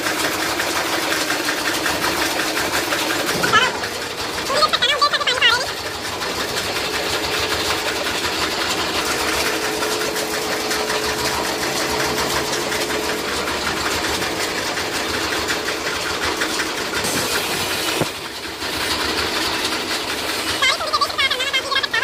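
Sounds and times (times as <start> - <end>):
chaff cutter clattering: 0.0 - 4.6, 5.7 - 20.6
steady machine hum: 0.0 - 22.0.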